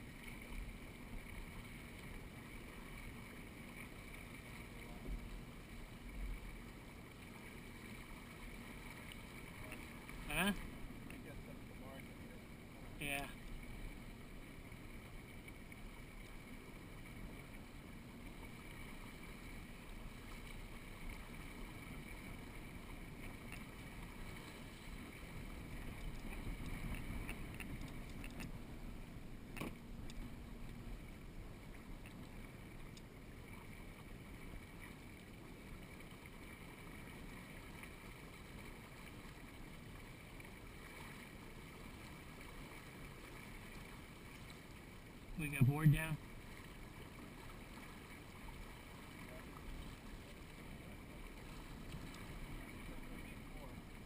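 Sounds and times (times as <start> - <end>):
water washing against hull: 0.0 - 54.0.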